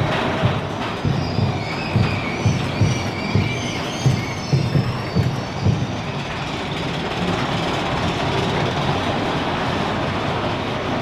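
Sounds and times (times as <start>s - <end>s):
roller coaster on track: 0.0s - 11.0s.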